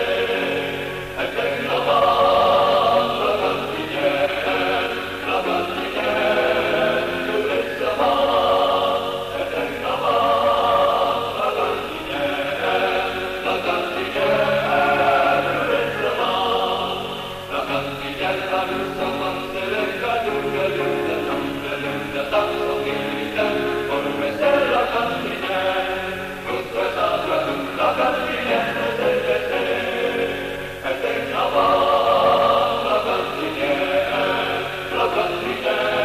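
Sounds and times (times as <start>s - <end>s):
choir singing slow phrases: 0.0s - 36.0s.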